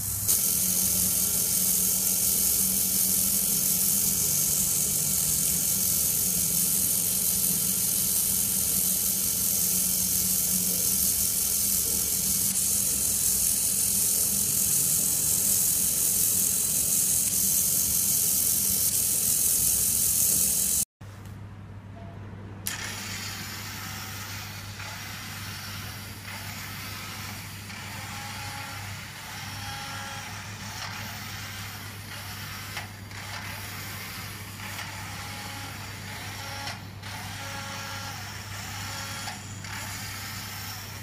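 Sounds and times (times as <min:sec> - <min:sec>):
small servo motor whirring: 0:00.3 - 0:20.9, 0:22.7 - 0:41.0.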